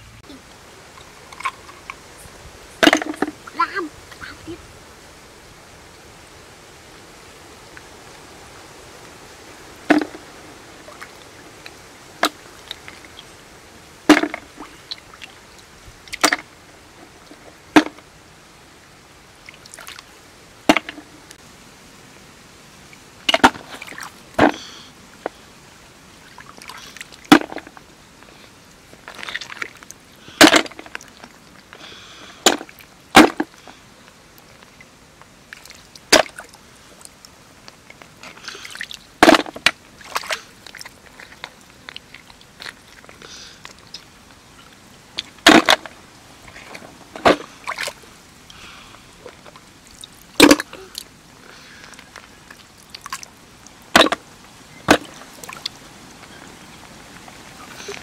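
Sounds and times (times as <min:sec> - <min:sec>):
water sloshing and squelching: 0:00.9 - 0:04.6, 0:09.7 - 0:18.1, 0:19.4 - 0:21.4, 0:22.9 - 0:25.4, 0:26.1 - 0:31.8, 0:32.4 - 0:58.0.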